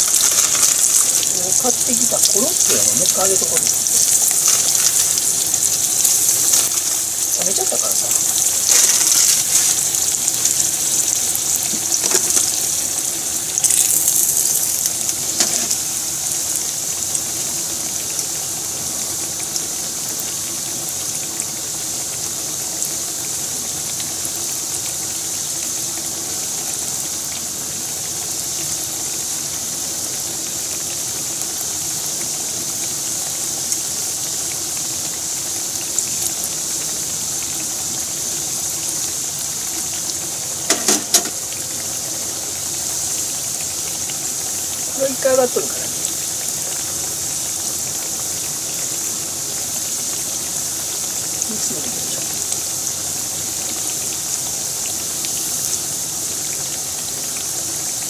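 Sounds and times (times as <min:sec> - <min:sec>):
faint oil crackles: 0:00.0 - 0:58.0
oil sizzling in a frying pan: 0:00.0 - 0:58.0.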